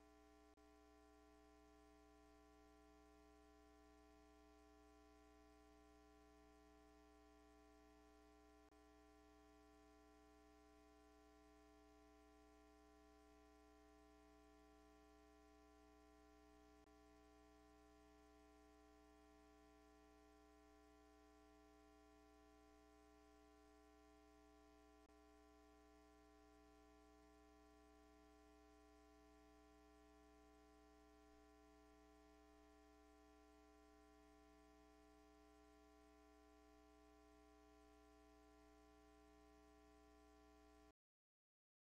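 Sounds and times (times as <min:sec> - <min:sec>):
faint electrical hum: 0:00.0 - 0:40.9.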